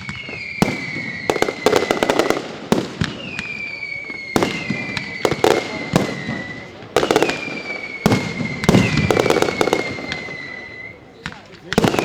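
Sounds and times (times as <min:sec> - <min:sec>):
falling firework whistles: 0:00.0 - 0:12.0
firework bangs: 0:00.0 - 0:12.0
firework crackling: 0:00.0 - 0:12.0.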